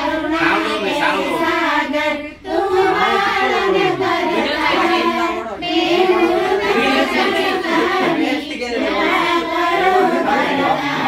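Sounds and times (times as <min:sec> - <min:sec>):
high voices singing together: 0:00.0 - 0:11.0.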